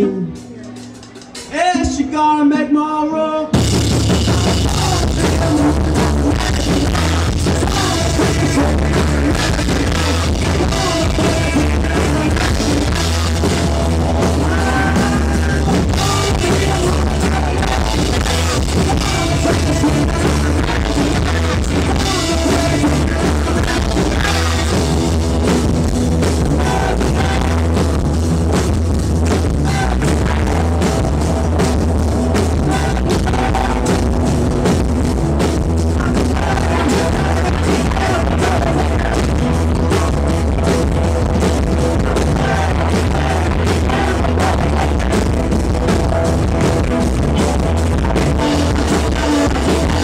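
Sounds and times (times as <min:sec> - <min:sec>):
busy drum kit: 0:00.0 - 0:02.0, 0:03.5 - 0:50.0
live rock band playing: 0:00.0 - 0:02.1, 0:03.4 - 0:50.0.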